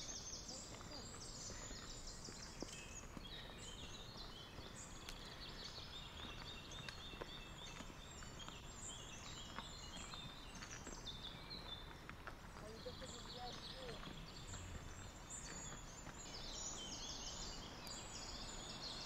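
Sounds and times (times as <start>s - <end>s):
songbirds singing: 0.0s - 19.0s
faint taps on stony trail: 0.6s - 16.9s.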